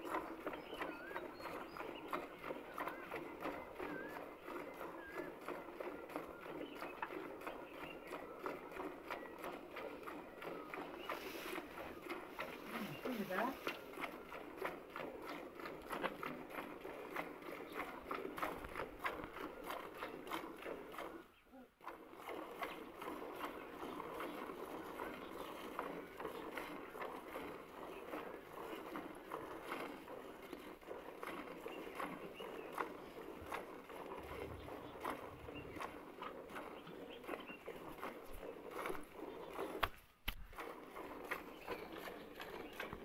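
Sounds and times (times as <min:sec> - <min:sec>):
milk squirting into bucket: 0:00.0 - 0:21.2, 0:21.8 - 0:43.0.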